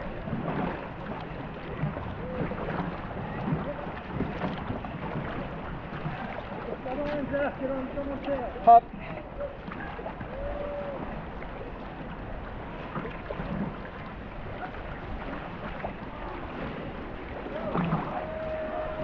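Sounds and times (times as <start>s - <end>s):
water splashing from paddling: 0.0s - 19.0s
wind on the microphone: 0.0s - 19.0s.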